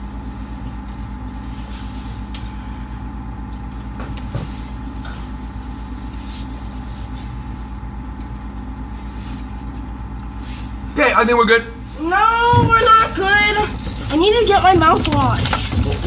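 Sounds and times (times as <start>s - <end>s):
mechanical hum with low pulsing: 0.0s - 16.0s.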